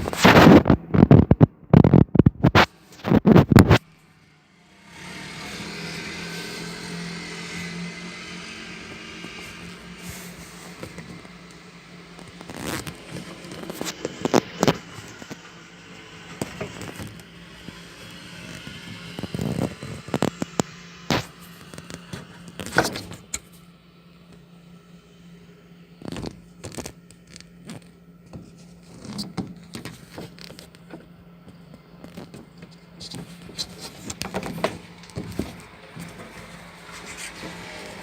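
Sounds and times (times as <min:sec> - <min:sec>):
washing machine motor hum: 0:00.0 - 0:38.0.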